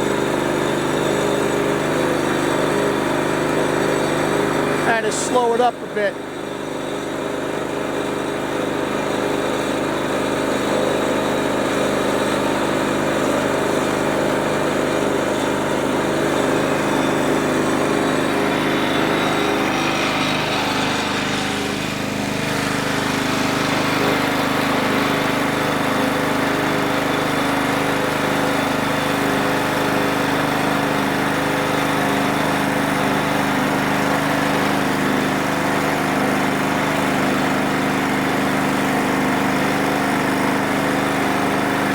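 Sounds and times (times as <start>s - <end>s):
sawmill cutting a log: 0.0s - 41.9s.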